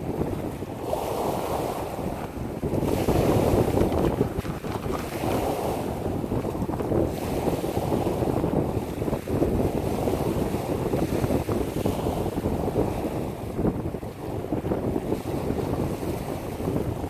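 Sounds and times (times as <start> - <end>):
waves washing over pebbles: 0.0 - 17.0
wind buffeting microphone: 0.0 - 17.0.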